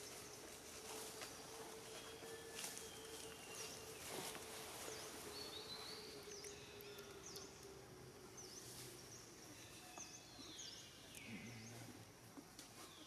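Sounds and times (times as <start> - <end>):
bird chirping: 0.0 - 11.9
faint outdoor background noise: 0.0 - 13.0.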